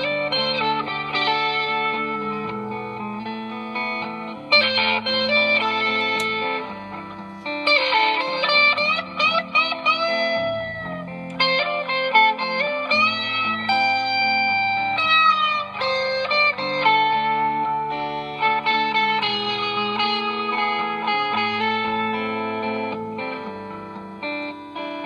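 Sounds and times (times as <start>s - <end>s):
electric guitar notes and chords: 0.0s - 25.0s.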